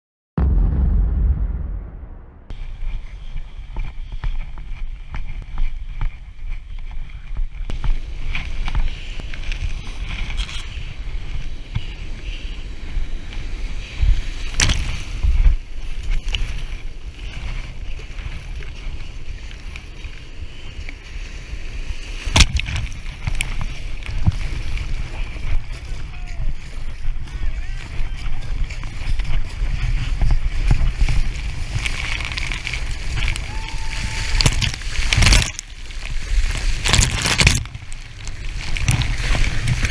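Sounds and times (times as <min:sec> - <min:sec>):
wind buffeting microphone: 0:00.4 - 0:39.9
water splashing on kayak: 0:02.5 - 0:39.9.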